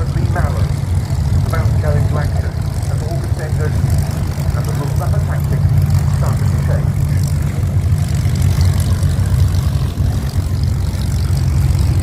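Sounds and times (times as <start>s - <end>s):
aircraft piston engines rumbling: 0.0s - 12.0s.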